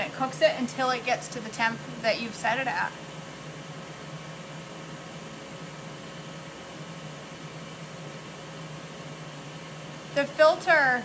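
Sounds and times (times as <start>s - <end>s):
grill fan humming and whirring: 0.0s - 11.0s.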